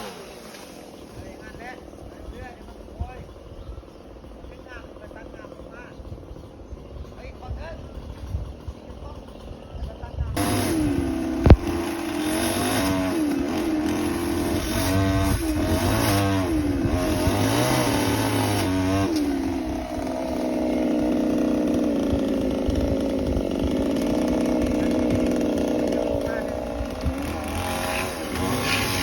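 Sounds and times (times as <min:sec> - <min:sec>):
chainsaw engine revving: 0:00.0 - 0:29.0.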